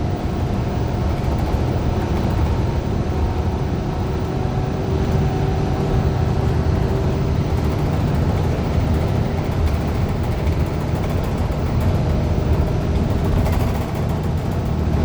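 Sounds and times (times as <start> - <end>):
bus interior engine and road rumble: 0.0 - 15.0.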